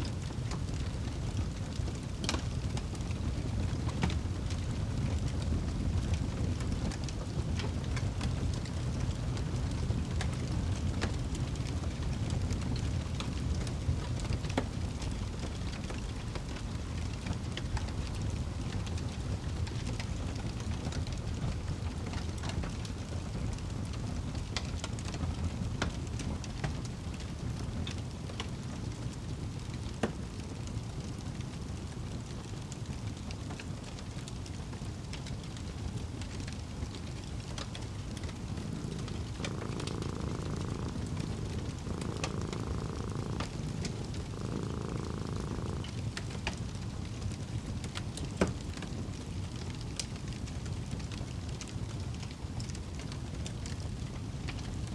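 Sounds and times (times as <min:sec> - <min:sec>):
cat purring: 0:00.0 - 0:31.2, 0:35.0 - 0:50.3
wood fire crackling and popping: 0:00.0 - 0:54.8.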